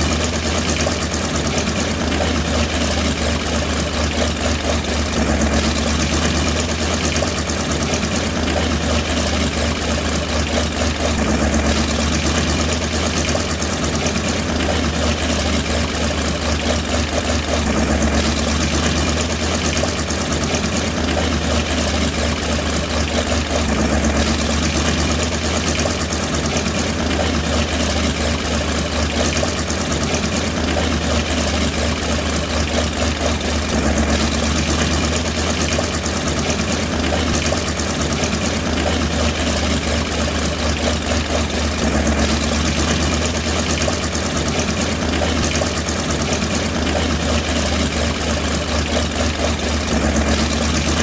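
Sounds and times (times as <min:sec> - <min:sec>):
propeller engine droning: 0:00.0 - 0:51.0.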